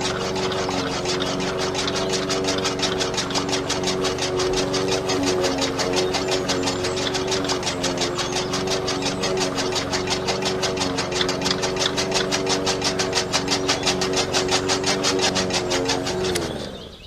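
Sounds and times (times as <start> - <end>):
fast even clatter: 0.0 - 16.9
small motor running: 0.0 - 17.0.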